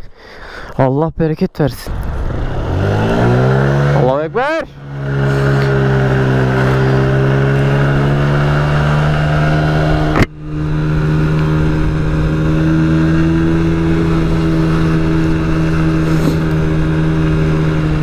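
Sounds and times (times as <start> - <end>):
scooter engine running: 1.9 - 18.0.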